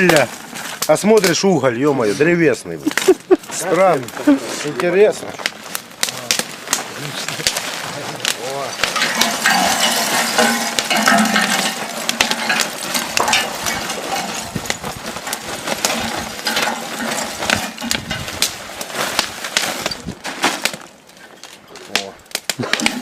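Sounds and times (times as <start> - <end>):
charcoal clinking and rattling: 0.0 - 23.0.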